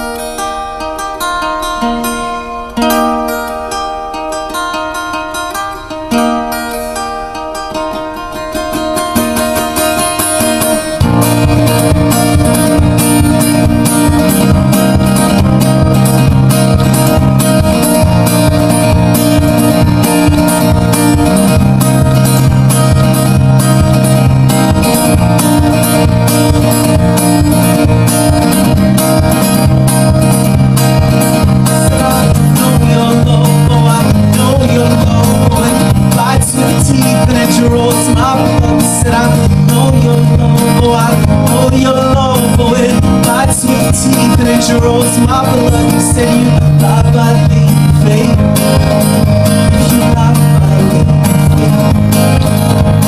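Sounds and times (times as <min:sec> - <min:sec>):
acoustic guitar strummed hard: 0:00.0 - 0:53.0.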